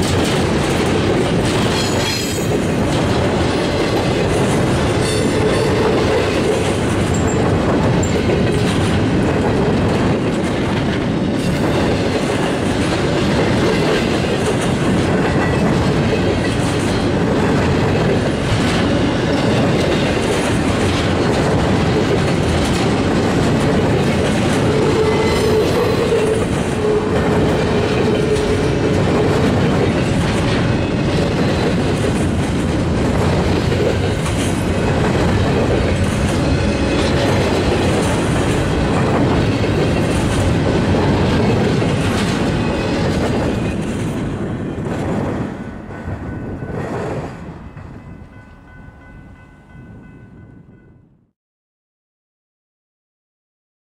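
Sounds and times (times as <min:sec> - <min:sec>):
wheels clacking over rail joints: 0:00.0 - 0:45.2
freight train wheels rumbling: 0:00.0 - 0:51.0.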